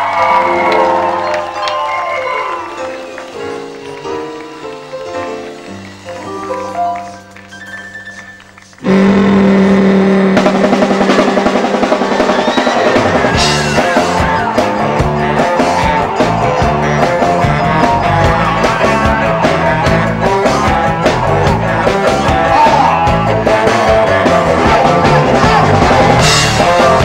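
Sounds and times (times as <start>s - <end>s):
drums: 0.0s - 27.0s
electric guitar: 0.0s - 27.0s
rock band playing: 0.0s - 27.0s.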